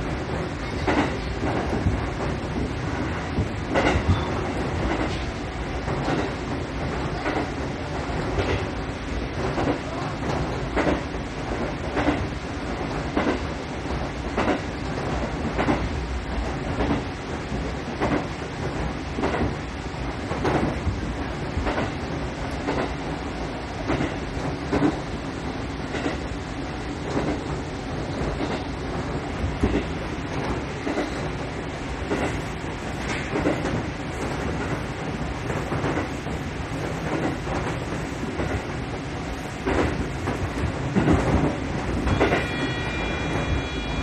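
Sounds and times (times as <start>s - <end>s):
train running rumble: 0.0s - 44.0s.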